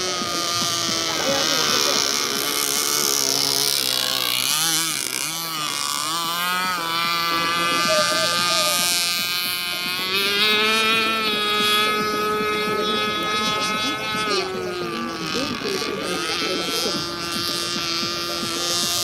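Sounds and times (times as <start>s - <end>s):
model boat engine running: 0.0s - 19.0s.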